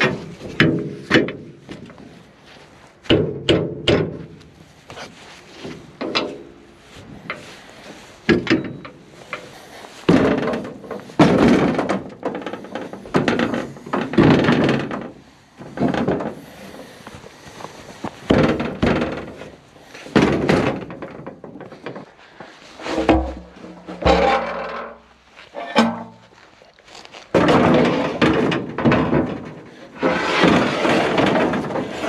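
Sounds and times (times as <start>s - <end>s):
metal ramps knocking and clattering: 0.0s - 2.1s, 3.0s - 4.4s, 5.6s - 6.6s, 7.3s - 16.8s, 18.2s - 22.1s, 22.8s - 26.3s, 27.3s - 32.0s.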